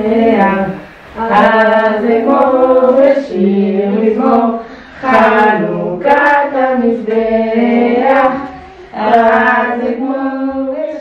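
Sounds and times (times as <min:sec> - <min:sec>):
group singing: 0:00.0 - 0:11.0.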